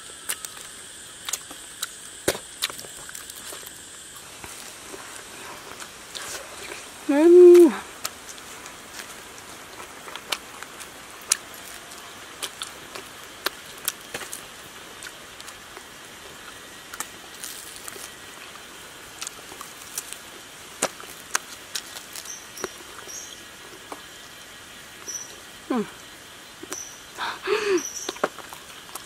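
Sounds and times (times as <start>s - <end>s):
faint steady hiss: 0.0s - 29.0s
chewing crunches: 0.2s - 6.9s, 7.9s - 24.2s, 27.8s - 29.0s.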